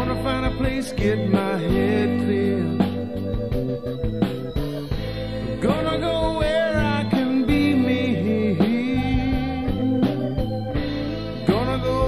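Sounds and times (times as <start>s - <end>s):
band playing a song: 0.0s - 12.0s.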